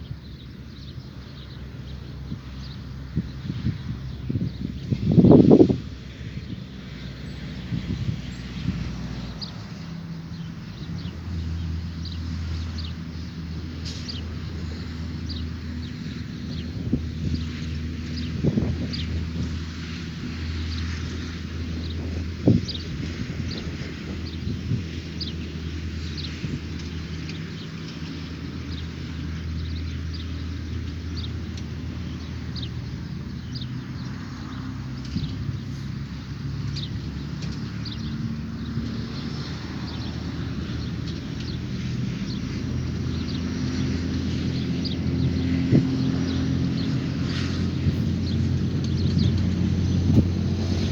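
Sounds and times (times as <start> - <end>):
birds chirping: 0.0 - 50.9
low engine rumble: 0.0 - 50.9.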